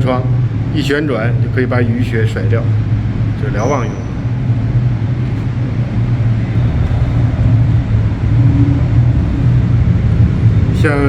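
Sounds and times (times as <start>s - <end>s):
ship hum: 0.0s - 11.0s
wind moaning: 1.4s - 11.0s.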